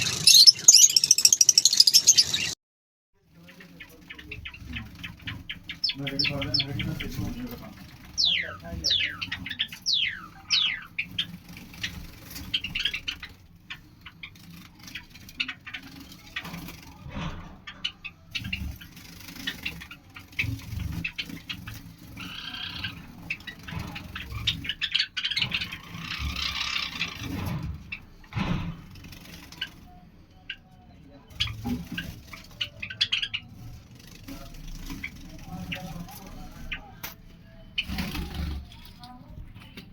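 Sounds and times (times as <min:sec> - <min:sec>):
lovebirds chirping: 0:00.0 - 0:02.6, 0:03.3 - 0:17.0, 0:17.6 - 0:39.9.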